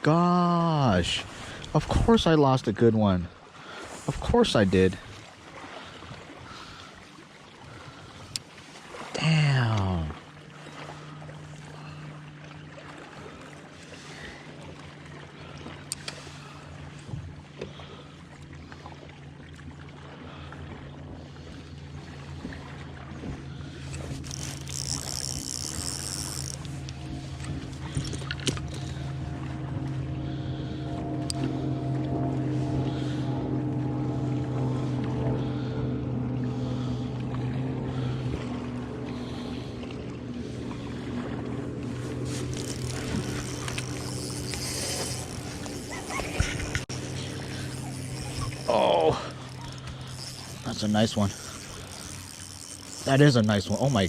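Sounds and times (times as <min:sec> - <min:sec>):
boat motor hum: 0:00.0 - 0:54.0.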